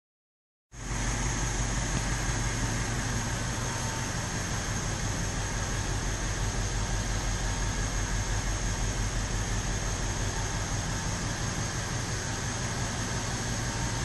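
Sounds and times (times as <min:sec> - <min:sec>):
car engine idling: 0:00.8 - 0:14.0.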